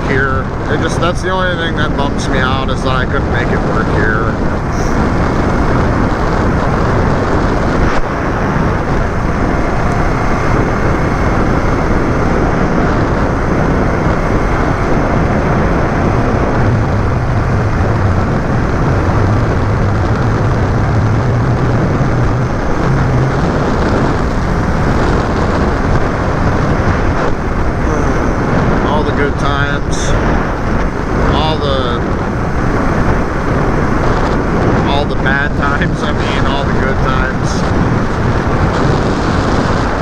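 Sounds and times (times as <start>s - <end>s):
low drone: 0.0s - 40.0s
vehicle road and engine noise: 0.0s - 40.0s.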